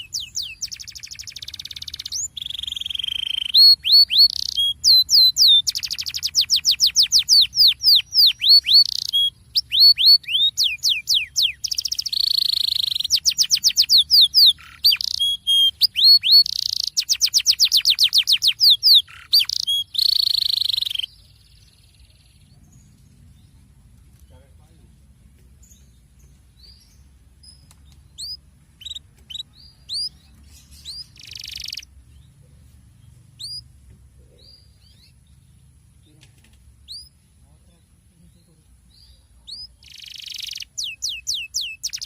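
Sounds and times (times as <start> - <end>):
canary singing trills: 0.0 - 24.8, 25.6 - 36.2, 36.8 - 42.0.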